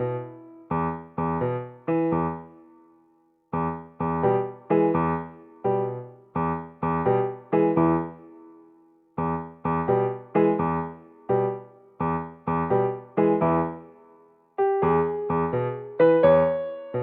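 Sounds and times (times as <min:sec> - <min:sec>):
electric piano chords: 0:00.0 - 0:02.6, 0:03.5 - 0:08.4, 0:09.2 - 0:17.0.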